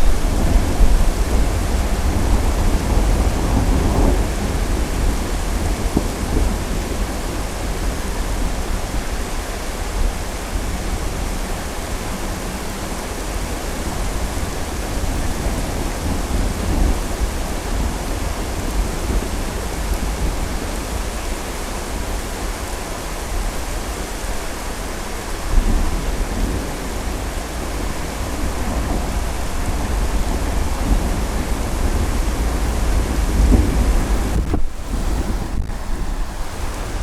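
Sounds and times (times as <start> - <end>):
thunder rumbling: 0.0 - 21.3, 25.4 - 37.0
steady rain: 0.0 - 37.0.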